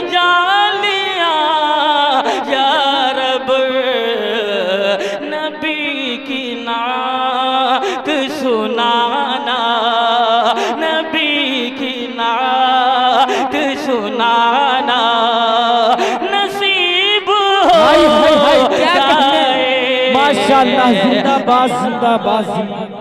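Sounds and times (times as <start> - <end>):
man chanting: 0.0 - 23.0.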